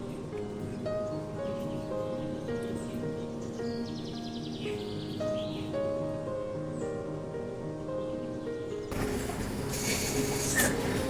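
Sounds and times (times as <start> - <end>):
music of slow held notes: 0.0 - 11.0.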